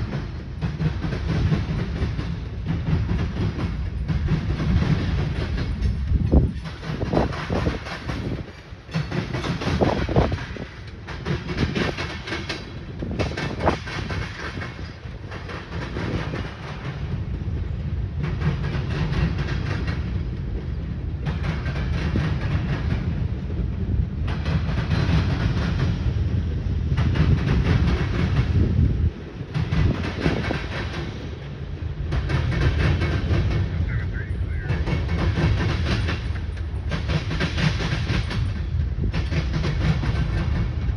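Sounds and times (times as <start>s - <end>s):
freight train cars rolling: 0.0s - 40.9s
wheels clacking over rail joints: 0.0s - 40.9s.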